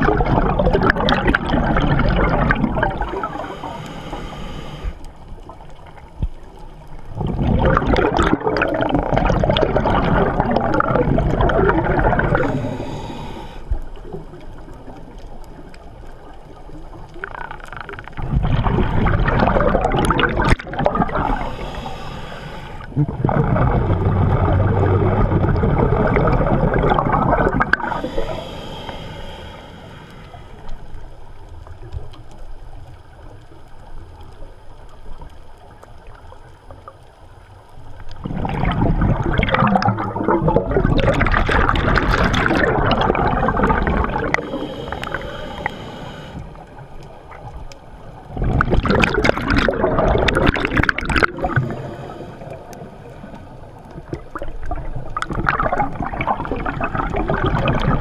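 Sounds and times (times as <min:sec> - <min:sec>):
underwater exhaled bubbles: 0:00.0 - 0:58.0.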